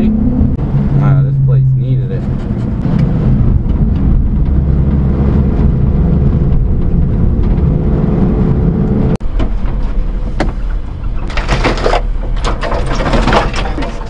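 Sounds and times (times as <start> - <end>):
truck engine running: 0.0 - 11.4
road noise: 0.0 - 14.0.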